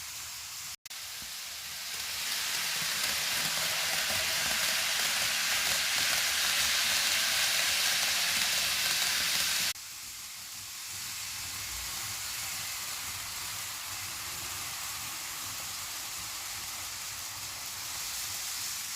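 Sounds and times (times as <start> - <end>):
steady hiss: 0.0 - 18.9
model train rolling on track: 1.0 - 18.9.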